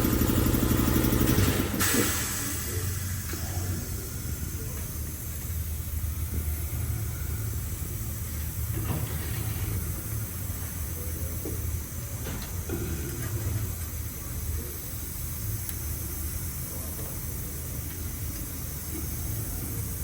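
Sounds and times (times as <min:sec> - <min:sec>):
low hum with hiss: 0:01.4 - 0:20.0.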